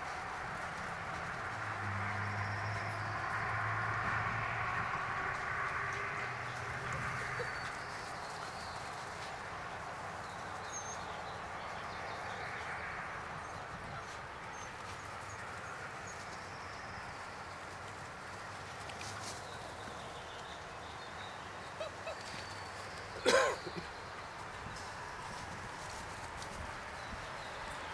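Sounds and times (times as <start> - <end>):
outdoor background noise: 0.0 - 27.9.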